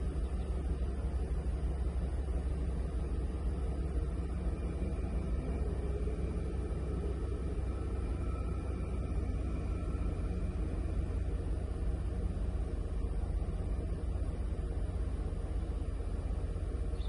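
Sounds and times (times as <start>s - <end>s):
engine idling rumble: 0.0s - 17.0s.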